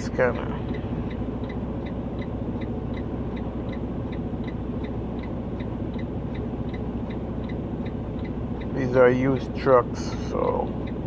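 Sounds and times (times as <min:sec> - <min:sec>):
indicator ticking: 0:00.0 - 0:11.0
truck diesel engine rumble: 0:00.0 - 0:11.0.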